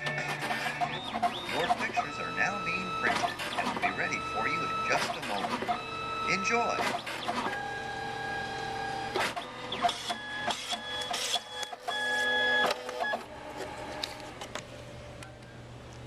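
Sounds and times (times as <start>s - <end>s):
printer motor whine: 0.0s - 15.6s
paper feed clicks: 0.0s - 16.0s.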